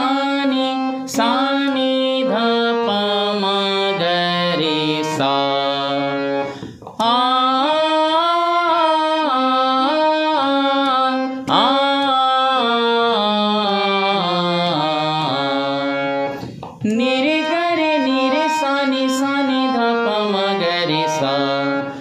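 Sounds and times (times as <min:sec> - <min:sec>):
harmonium playing: 0:00.0 - 0:22.0
person singing an open vowel: 0:00.0 - 0:22.0.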